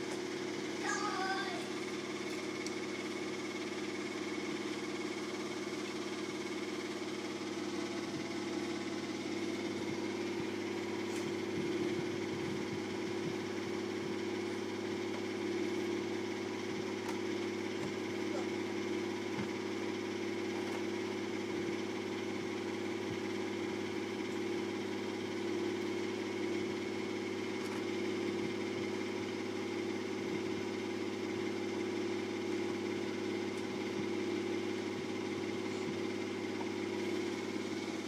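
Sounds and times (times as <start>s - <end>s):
motor humming: 0.0s - 38.0s.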